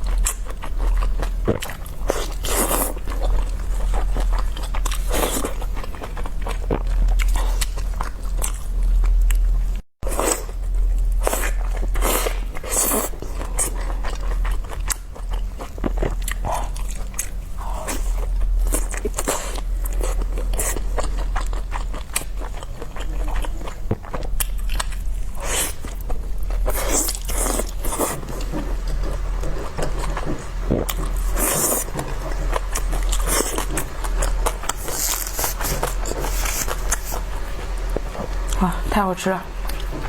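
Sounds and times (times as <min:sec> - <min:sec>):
person chewing food wetly: 0:00.0 - 0:38.7.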